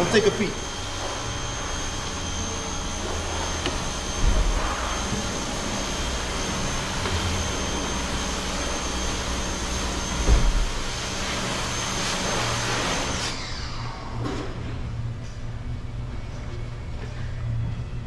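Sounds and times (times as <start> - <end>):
faint high whine: 0.0 - 18.0
low hum: 0.0 - 18.0.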